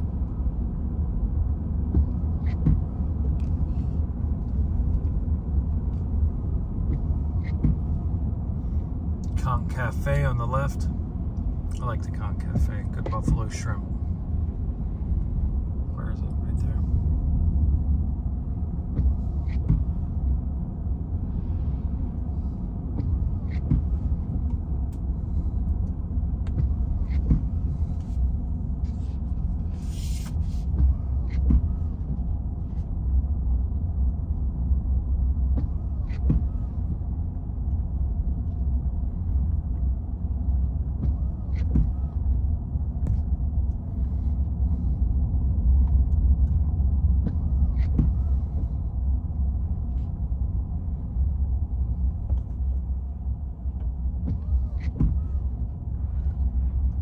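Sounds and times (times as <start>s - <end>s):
road rumble inside vehicle: 0.0s - 57.0s.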